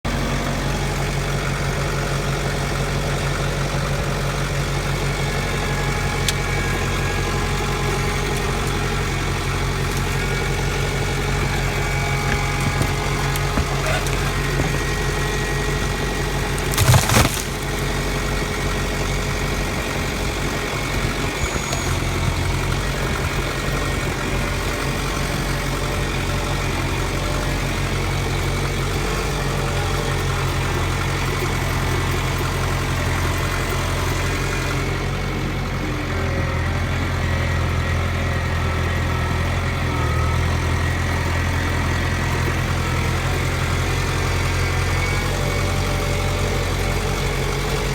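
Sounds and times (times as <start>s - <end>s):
engine idling: 0.0s - 47.9s.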